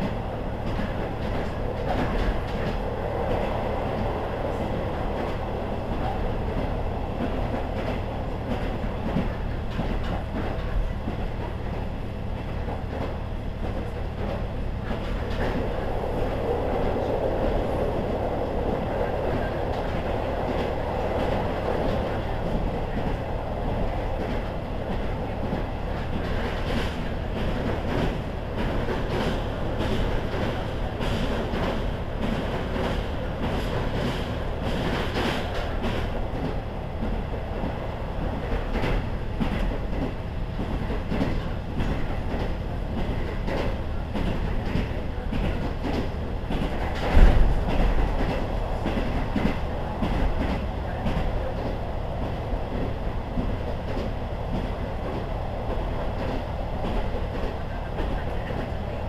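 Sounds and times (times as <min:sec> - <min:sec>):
diesel railcar running: 0:00.0 - 0:59.0.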